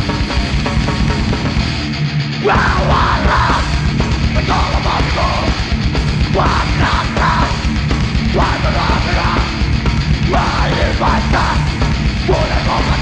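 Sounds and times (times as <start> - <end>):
live metal band playing: 0.0 - 13.0.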